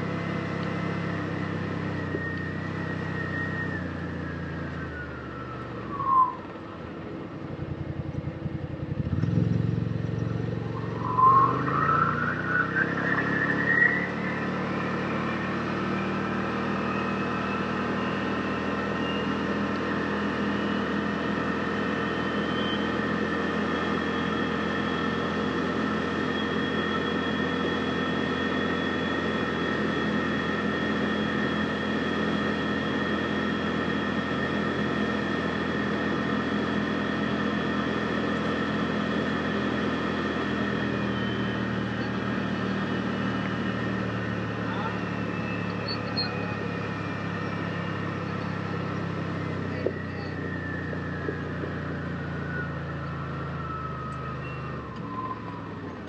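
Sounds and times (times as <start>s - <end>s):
vehicle engine running steadily: 0.0s - 56.0s.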